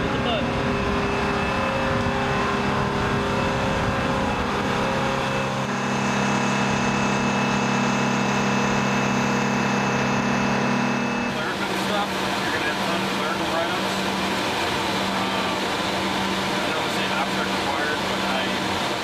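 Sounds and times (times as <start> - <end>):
gas turbine drone: 0.0 - 19.0.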